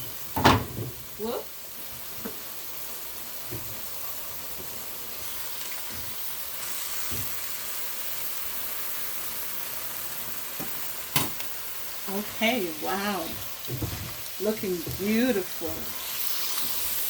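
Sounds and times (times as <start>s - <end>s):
stir fry sizzling in a pan: 0.0s - 17.0s.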